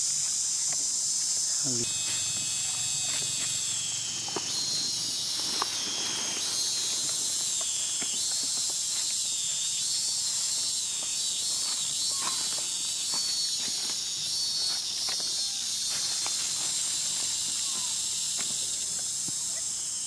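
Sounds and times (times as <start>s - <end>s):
high-pitched insect chorus: 0.0s - 20.0s
dry leaves crackling underfoot: 1.7s - 19.4s.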